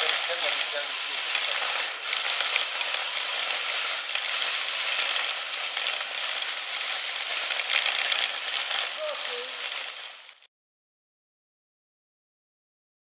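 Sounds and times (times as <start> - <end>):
rotary brush scouring track: 0.0 - 10.5.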